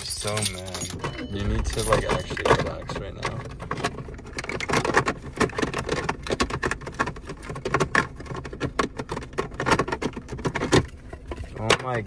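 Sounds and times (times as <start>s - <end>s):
hand rummaging clicks and rustles: 0.0s - 12.0s.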